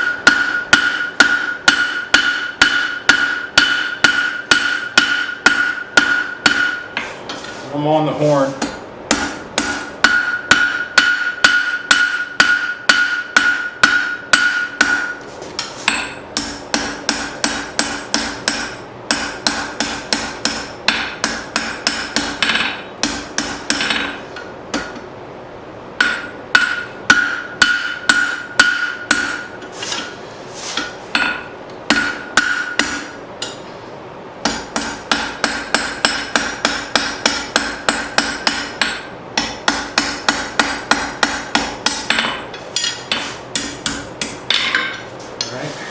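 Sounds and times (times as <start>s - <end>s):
hammer striking steel on anvil: 0.0s - 7.4s, 8.6s - 25.0s, 26.0s - 30.1s, 30.8s - 33.6s, 34.4s - 45.6s.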